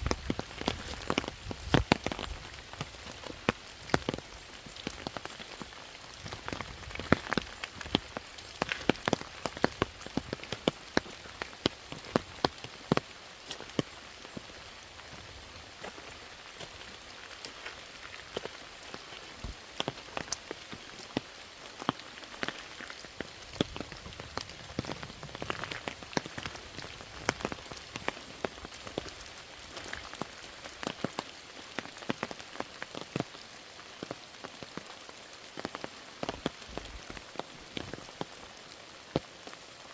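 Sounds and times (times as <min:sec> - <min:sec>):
close raindrop strikes: 0:00.0 - 0:39.9
rain hiss: 0:00.0 - 0:39.9.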